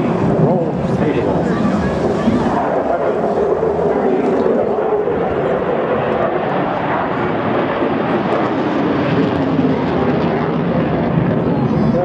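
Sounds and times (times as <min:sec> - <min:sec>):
aircraft engine overhead: 0:00.0 - 0:12.0.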